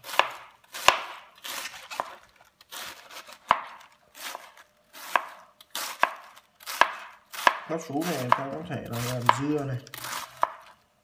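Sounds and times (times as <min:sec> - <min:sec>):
knife crunching through cabbage: 0:00.0 - 0:10.9.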